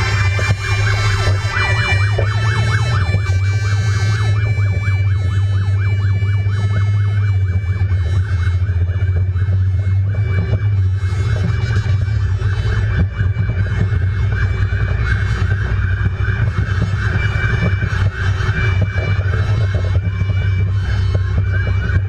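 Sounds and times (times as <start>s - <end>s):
fire engine sirens yelping: 0.0s - 22.0s
steady low rumble: 0.0s - 22.0s.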